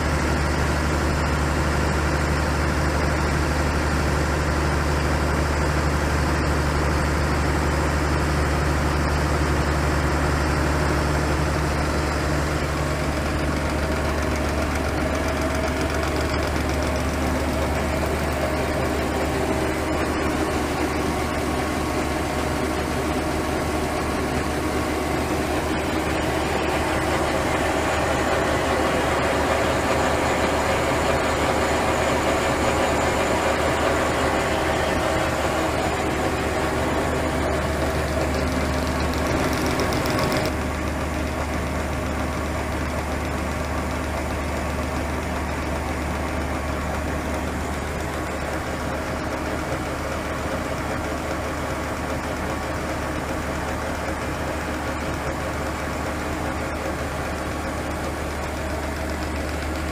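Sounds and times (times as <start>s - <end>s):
grain unloader machine drone: 0.0s - 59.9s.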